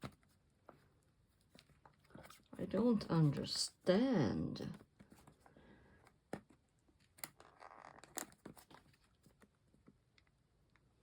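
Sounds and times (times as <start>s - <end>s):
soft plastic rustle: 0.0s - 3.5s, 4.6s - 10.9s.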